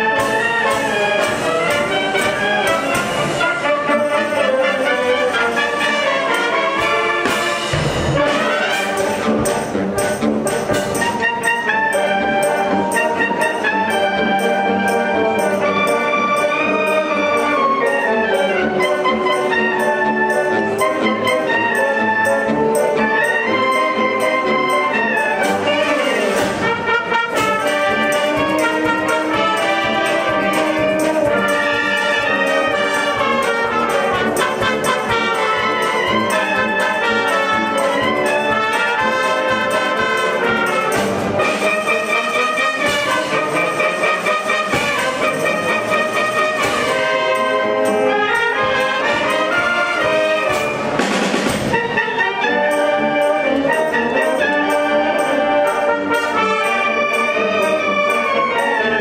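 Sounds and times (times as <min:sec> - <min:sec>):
percussion beat: 0:00.0 - 0:59.0
wind band playing: 0:00.0 - 0:59.0.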